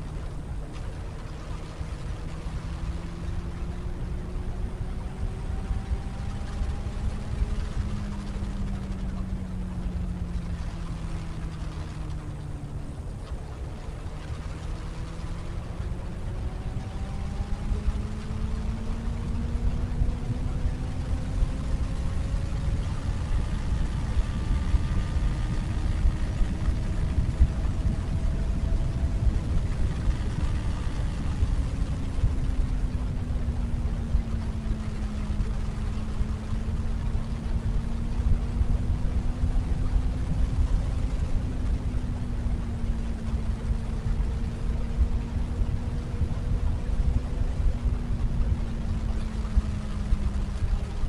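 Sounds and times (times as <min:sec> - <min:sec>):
faint motorcycle engine: 0:00.0 - 0:51.0
wind buffeting microphone: 0:00.0 - 0:51.0.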